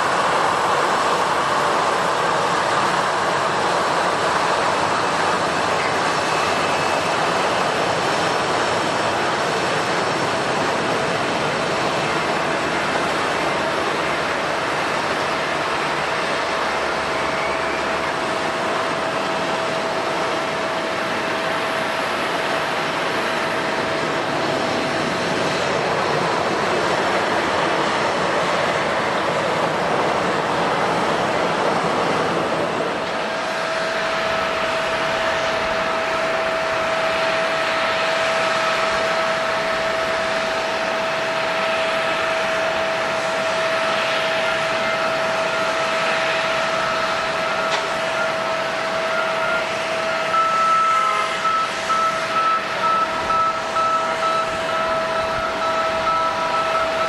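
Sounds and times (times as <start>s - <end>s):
high engine whine: 0.0s - 57.0s
jet engines rushing: 0.0s - 57.0s.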